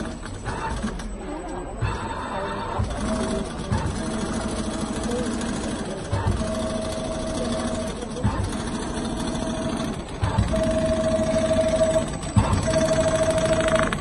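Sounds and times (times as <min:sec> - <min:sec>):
sewing machine stitching: 0:00.0 - 0:01.2, 0:02.7 - 0:14.0.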